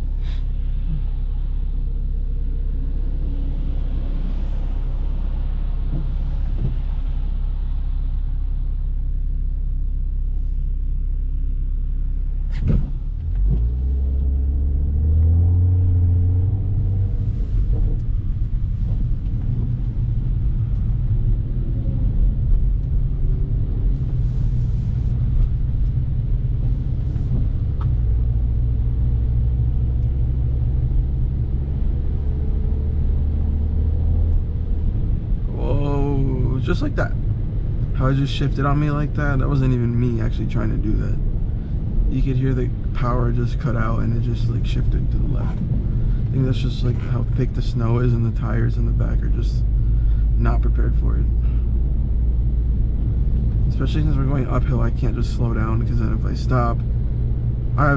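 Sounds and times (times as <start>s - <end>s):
car engine rumbling inside cabin: 0.0s - 57.9s.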